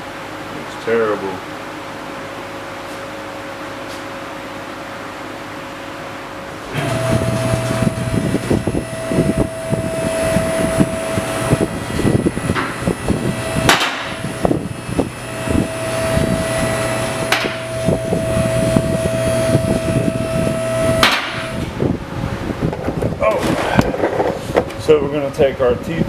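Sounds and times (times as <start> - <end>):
mechanical hum and whine: 0.0 - 26.0.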